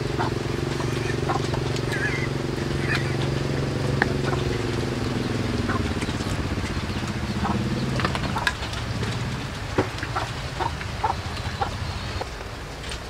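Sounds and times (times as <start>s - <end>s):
chicken clucking: 0.0s - 3.4s, 4.0s - 12.3s
small engine running: 0.0s - 12.2s.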